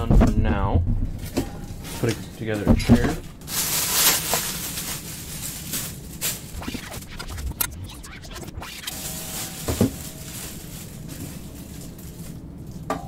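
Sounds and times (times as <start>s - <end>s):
plastic bag rustling: 1.1s - 7.4s, 8.2s - 13.0s.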